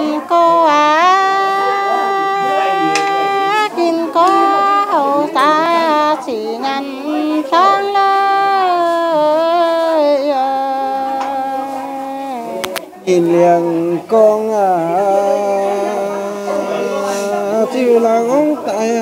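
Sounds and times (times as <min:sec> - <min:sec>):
woman singing unaccompanied: 0:00.0 - 0:19.0.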